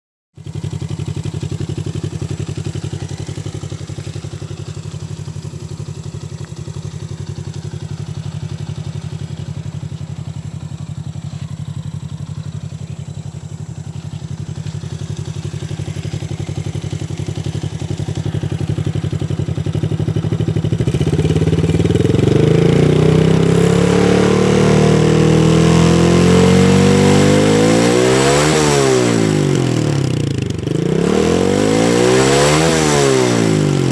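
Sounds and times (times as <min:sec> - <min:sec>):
engine idling and revving: 0:00.4 - 0:33.9.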